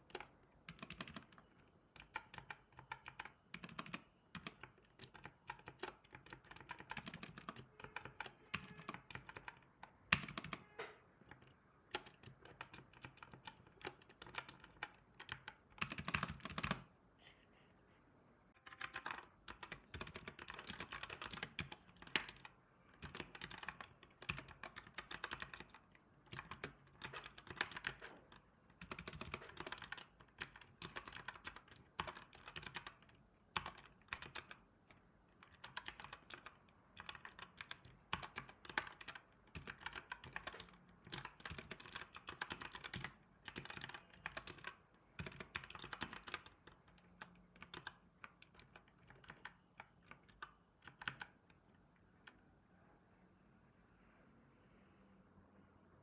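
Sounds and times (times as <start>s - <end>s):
typing on a computer keyboard: 0.0s - 16.9s, 18.5s - 52.4s.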